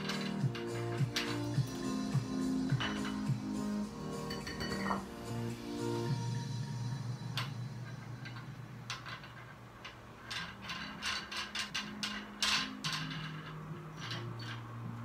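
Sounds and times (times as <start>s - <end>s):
metal dumbbells clicking: 0.0s - 5.1s, 7.4s - 15.0s.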